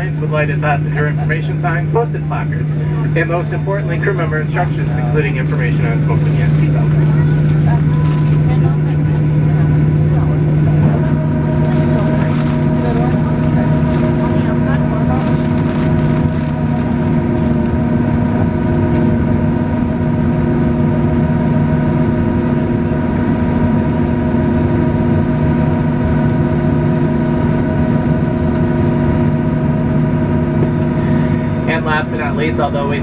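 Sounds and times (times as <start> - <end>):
aircraft cabin drone: 0.0 - 33.0.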